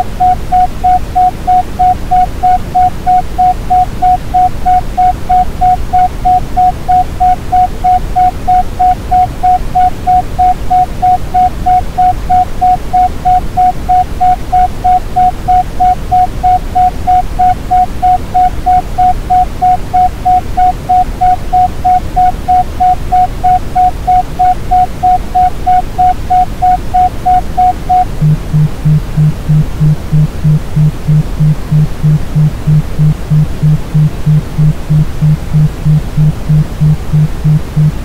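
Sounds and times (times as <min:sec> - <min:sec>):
pulsing mid-pitched beep: 0:00.0 - 0:37.9
steady brownian noise: 0:00.0 - 0:38.0.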